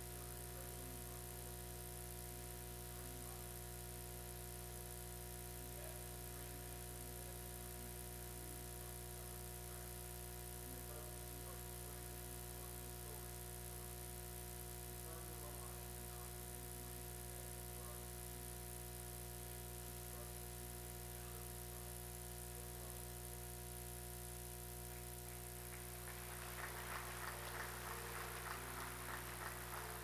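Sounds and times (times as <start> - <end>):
electrical hum and hiss: 0.0 - 30.0.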